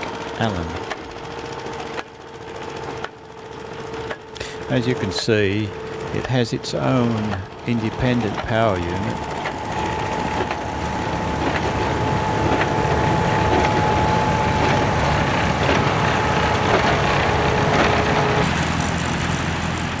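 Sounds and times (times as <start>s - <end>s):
baler engine running: 0.0s - 20.0s
steady whine: 0.0s - 20.0s.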